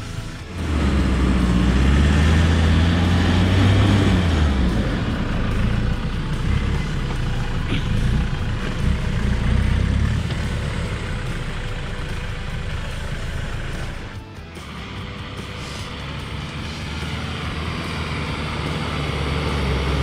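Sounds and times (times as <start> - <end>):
tyres churning through snow: 0.0 - 20.0
vehicle engine hum: 0.0 - 20.0.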